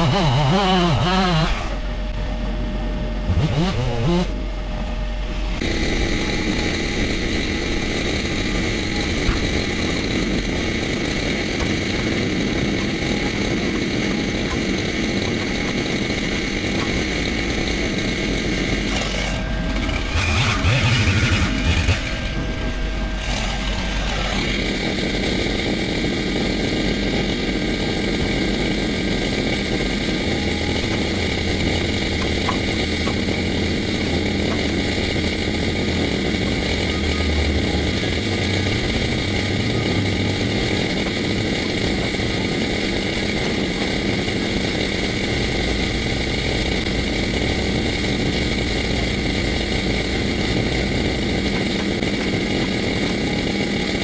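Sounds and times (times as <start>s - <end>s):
gas engine running at high speed: 0.0s - 54.0s.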